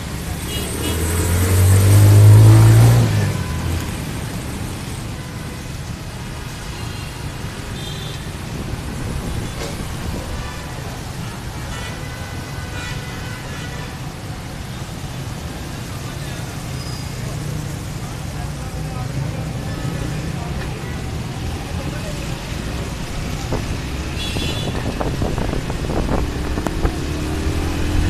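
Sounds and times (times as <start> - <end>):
street traffic: 0.0 - 28.0.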